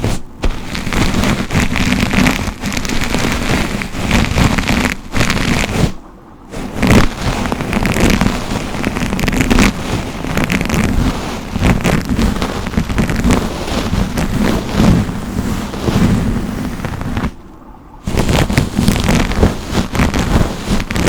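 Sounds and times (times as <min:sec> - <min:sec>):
brush rustling through hair: 0:00.0 - 0:17.4, 0:18.1 - 0:21.0.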